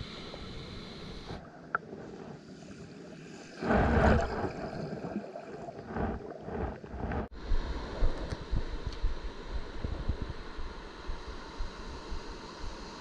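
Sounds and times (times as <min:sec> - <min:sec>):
muffled underwater surf: 0:00.0 - 0:13.0.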